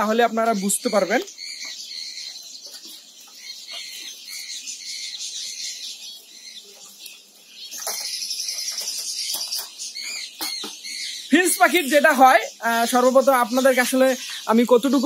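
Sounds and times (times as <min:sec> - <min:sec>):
finches chirping: 0:00.0 - 0:15.0.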